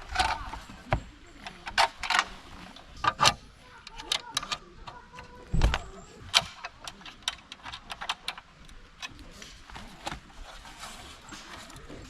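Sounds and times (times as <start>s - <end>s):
camping gear clicking and clattering: 0.0s - 12.0s.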